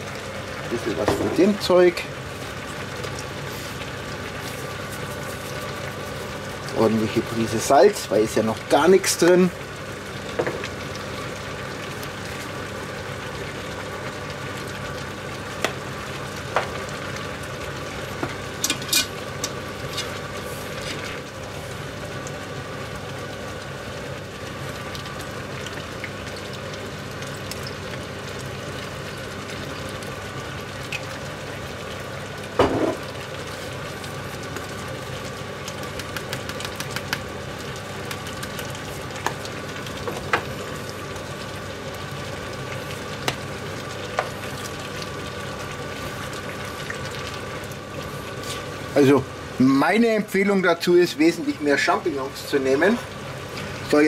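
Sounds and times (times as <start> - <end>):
stew sizzling and simmering: 0.0 - 54.0.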